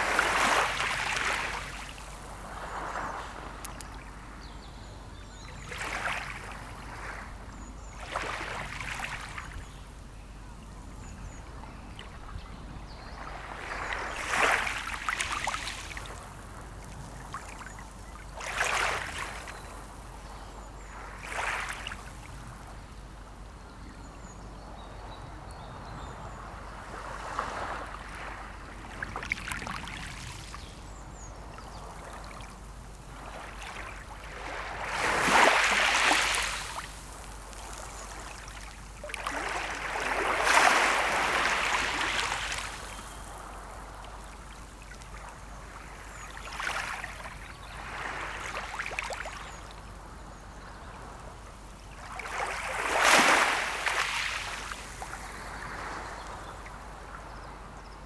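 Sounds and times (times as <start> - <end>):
small sea waves washing ashore: 0.0 - 4.4, 5.6 - 10.1, 13.2 - 22.9, 26.2 - 58.0.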